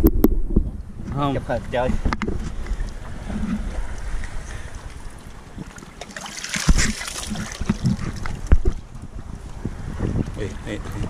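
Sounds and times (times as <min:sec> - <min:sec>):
wind buffeting microphone: 0:00.0 - 0:05.9, 0:06.6 - 0:11.0
sea water lapping and splashing: 0:01.6 - 0:11.0.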